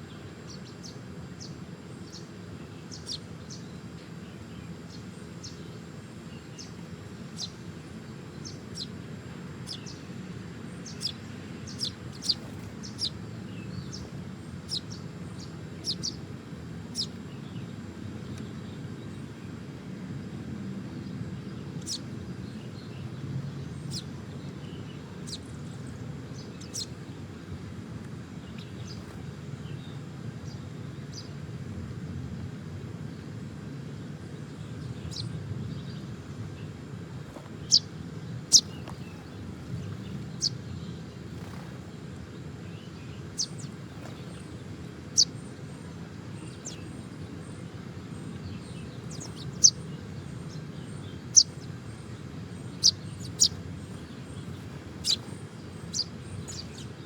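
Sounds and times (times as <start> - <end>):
low background rumble: 0.0 - 57.0
small birds chirping: 0.0 - 57.0.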